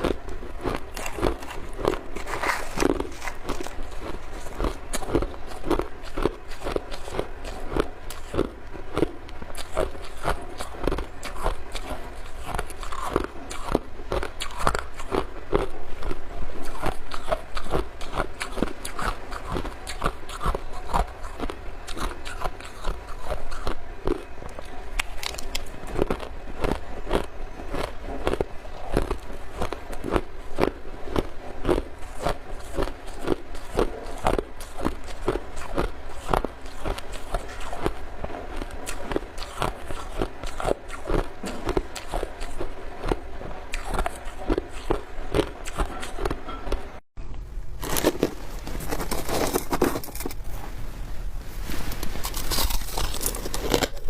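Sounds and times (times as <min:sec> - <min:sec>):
ice crunching being chewed: 0:00.0 - 0:46.9, 0:47.8 - 0:50.4, 0:51.7 - 0:54.0.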